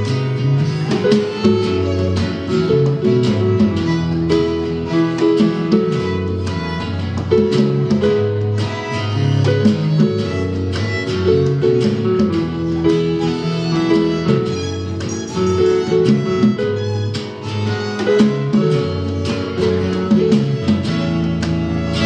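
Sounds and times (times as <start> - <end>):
guitar: 0.0 - 22.0
live band playing: 0.0 - 22.0.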